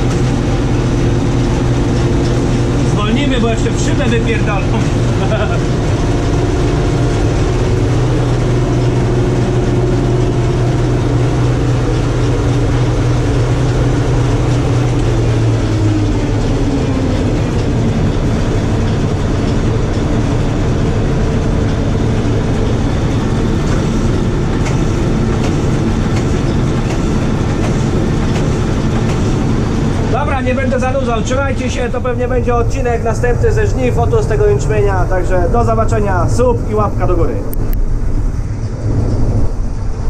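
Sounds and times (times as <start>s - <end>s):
combine harvester mechanical din: 0.0s - 40.0s
low steady hum: 0.0s - 40.0s.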